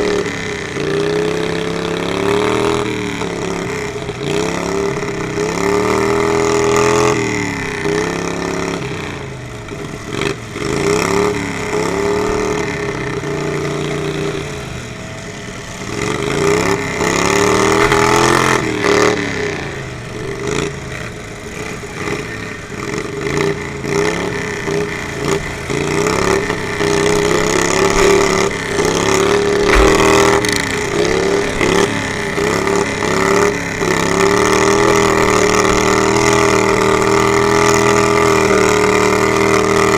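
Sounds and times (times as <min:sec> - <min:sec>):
racing lawnmower engines: 0:00.0 - 0:39.9.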